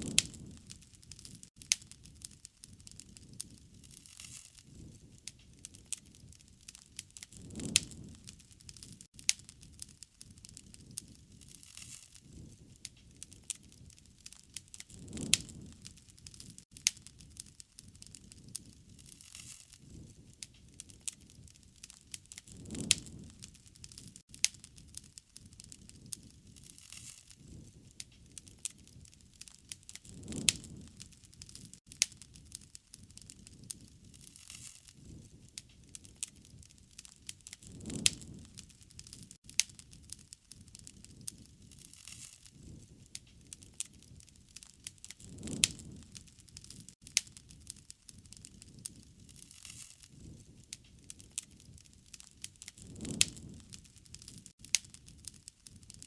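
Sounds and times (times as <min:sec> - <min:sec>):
low rush of flame: 0:00.0 - 0:56.0
sharp pops of fire: 0:00.0 - 0:56.0
wood fire crackling: 0:00.0 - 0:56.0.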